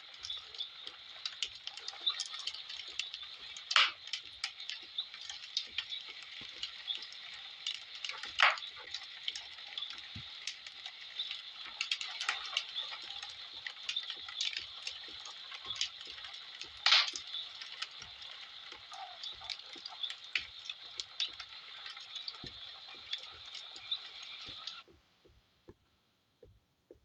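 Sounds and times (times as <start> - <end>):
wood fire crackling: 0.0 - 25.8.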